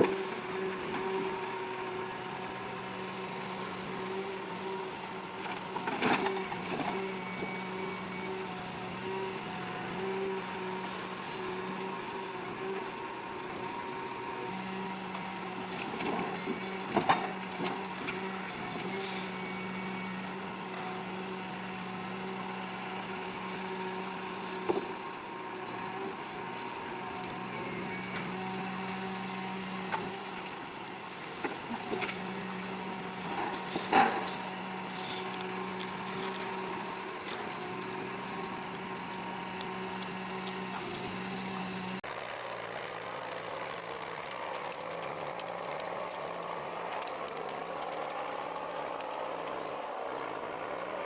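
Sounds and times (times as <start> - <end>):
heavy logging machine running: 0.0 - 51.0.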